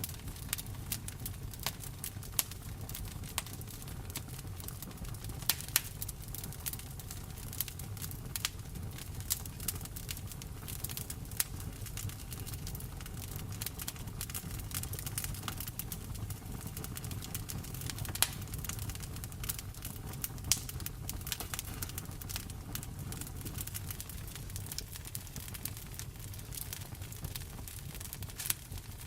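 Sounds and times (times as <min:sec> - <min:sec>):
low rumble of rain: 0:00.0 - 0:29.0
wood fire crackling and popping: 0:00.0 - 0:29.0.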